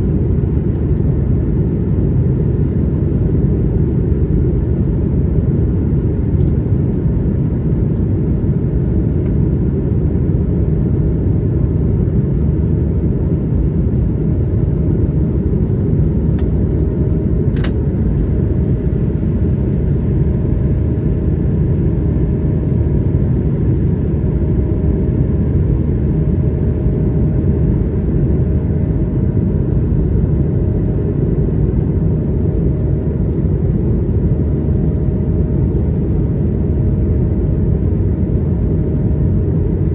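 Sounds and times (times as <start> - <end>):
aircraft cabin engine rumble: 0.0 - 39.9
faint steady hum: 0.0 - 39.9.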